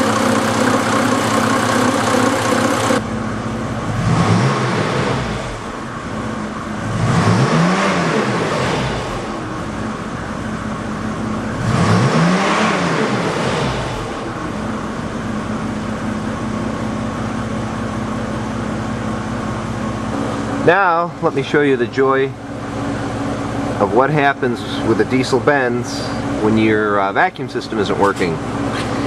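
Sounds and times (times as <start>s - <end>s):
diesel engine idling and revving: 0.0s - 29.0s.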